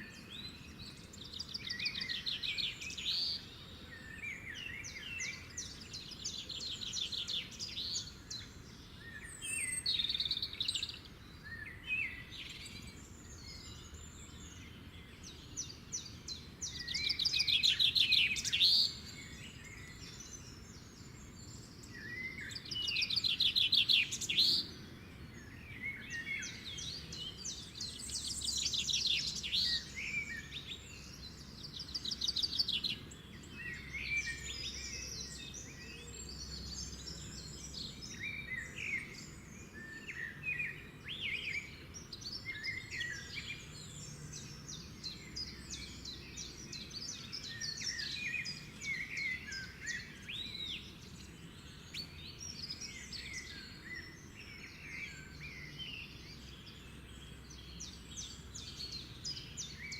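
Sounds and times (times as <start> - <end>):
birds chirping and trilling: 0.0 - 59.9
faint low background noise: 0.0 - 59.9.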